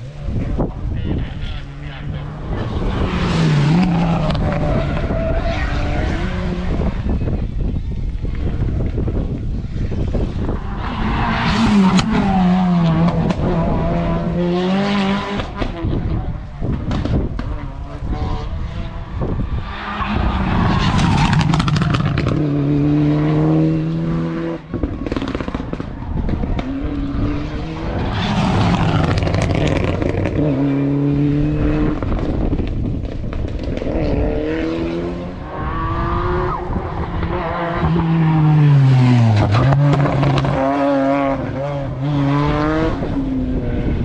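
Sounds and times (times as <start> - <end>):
race car engine revving: 0.0 - 7.3, 9.8 - 32.5, 33.6 - 44.0.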